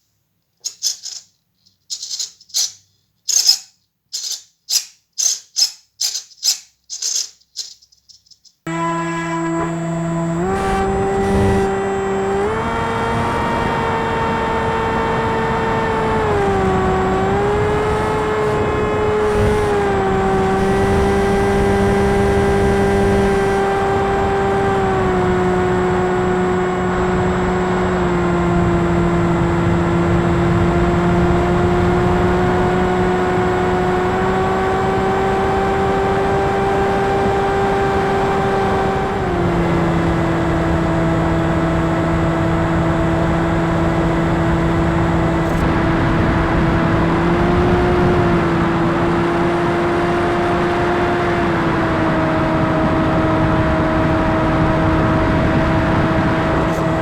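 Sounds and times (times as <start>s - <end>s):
electric motor and propeller whine: 8.7s - 57.0s.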